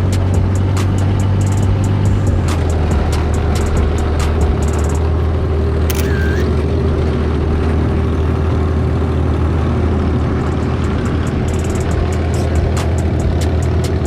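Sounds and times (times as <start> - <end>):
buggy engine humming: 0.0 - 14.0.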